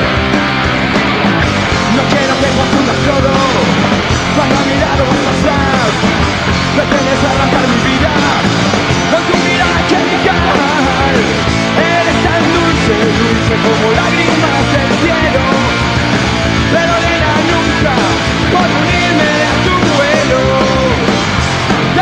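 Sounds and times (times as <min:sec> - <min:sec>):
bass guitar: 0:00.0 - 0:22.0
drums: 0:00.0 - 0:22.0
electric guitars: 0:00.0 - 0:22.0.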